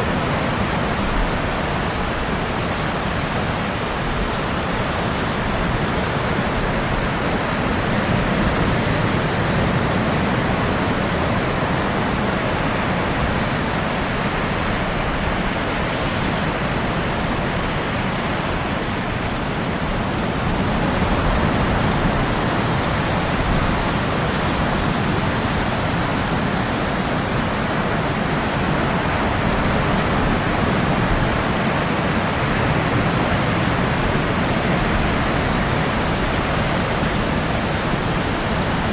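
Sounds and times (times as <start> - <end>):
ocean surf on beach: 0.0 - 38.9.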